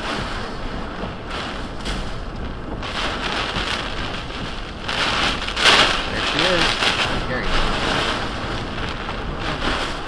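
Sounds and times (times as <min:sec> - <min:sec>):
driving rain: 0:00.0 - 0:10.0
gusting wind: 0:00.0 - 0:10.0
wind buffeting microphone: 0:00.0 - 0:10.0.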